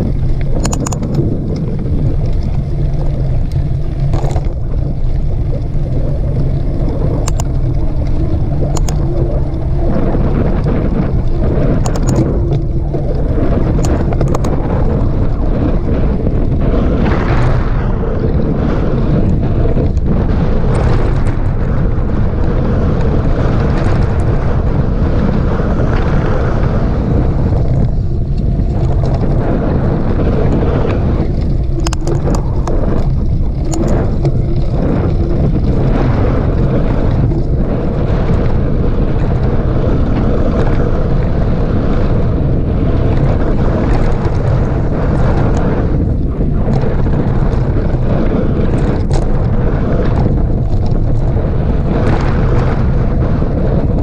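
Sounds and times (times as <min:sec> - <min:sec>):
bike rattles and clicks: 0:00.0 - 0:54.0
bike trail rumble: 0:00.0 - 0:54.0
wind buffeting microphone: 0:00.0 - 0:54.0.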